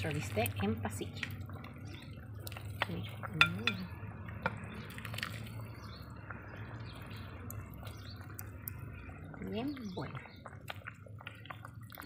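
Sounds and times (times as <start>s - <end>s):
sauce dripping and splashing: 0.0s - 12.0s.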